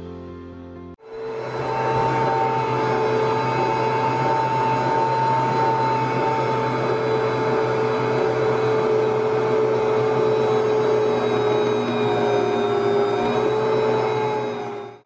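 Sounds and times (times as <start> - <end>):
food processor motor whining: 1.0 - 15.0.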